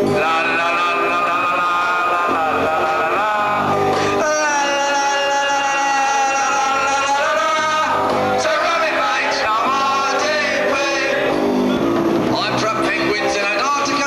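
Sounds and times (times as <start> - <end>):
man singing into microphone: 0.0 - 11.4, 12.3 - 14.0
musical accompaniment: 0.0 - 14.0.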